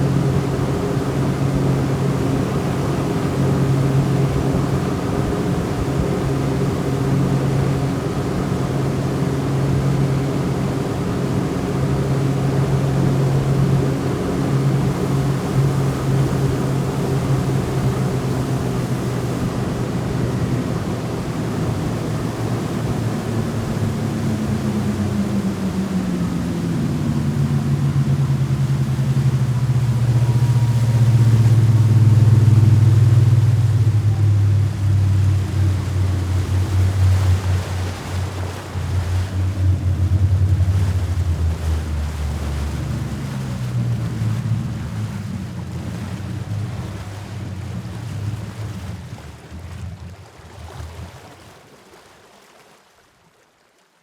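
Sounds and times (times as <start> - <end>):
speed boat engine running: 0.0 - 52.5.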